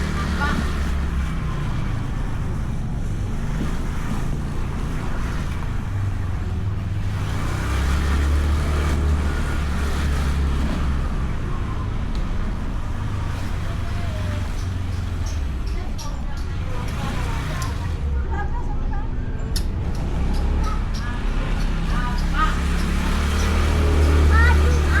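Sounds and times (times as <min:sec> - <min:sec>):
road noise: 0:00.0 - 0:25.0
scooter engine: 0:00.0 - 0:25.0.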